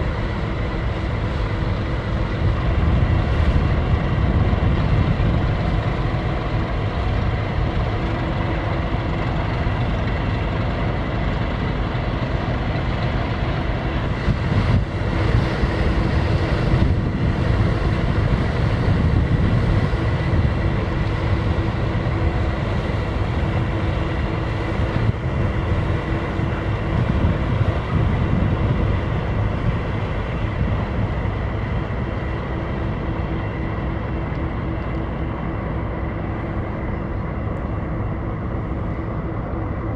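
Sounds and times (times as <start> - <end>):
ship diesel engines rumbling: 0.0 - 39.9.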